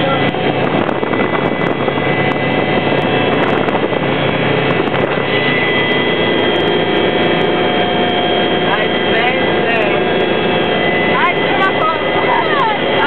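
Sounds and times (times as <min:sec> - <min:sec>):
helicopter rotor and engine noise: 0:00.0 - 0:13.0
high engine whine: 0:00.0 - 0:13.0.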